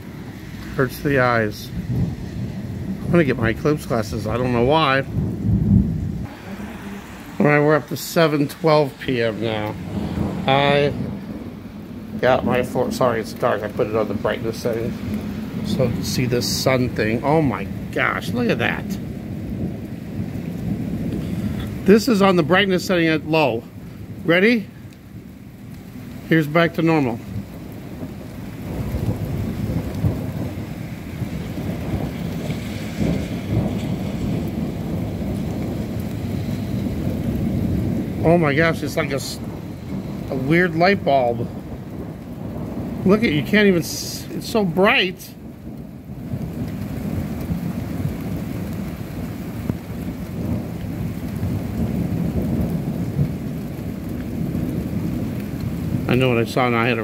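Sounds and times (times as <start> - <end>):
rain falling: 0.0 - 57.0
thunder rumble: 0.0 - 57.0.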